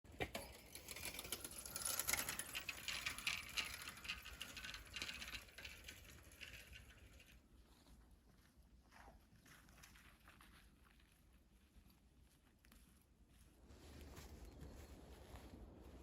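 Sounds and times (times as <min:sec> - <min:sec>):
animal rustling and crackling: 0:01.8 - 0:16.0.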